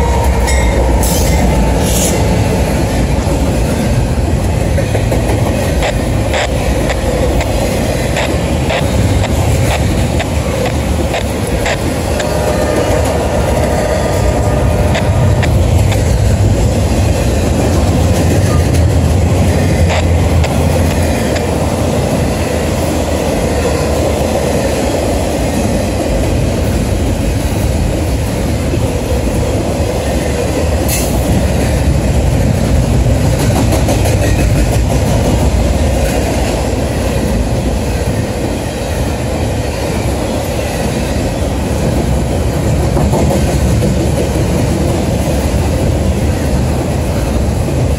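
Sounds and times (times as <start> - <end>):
freight train rumbling past: 0.0 - 47.9
wheels clicking on rails: 0.0 - 47.9.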